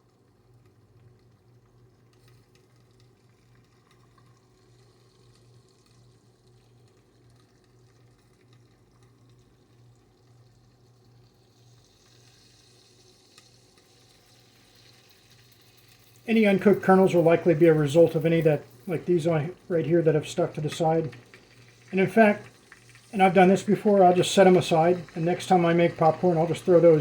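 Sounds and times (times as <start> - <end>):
popcorn popper humming: 0.0 - 27.0
oil sizzling: 0.4 - 27.0.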